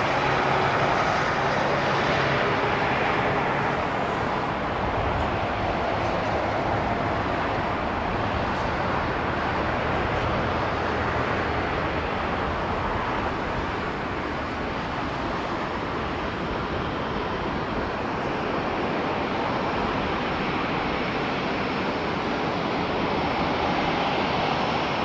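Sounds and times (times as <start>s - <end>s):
jet engine rushing: 0.0s - 25.0s.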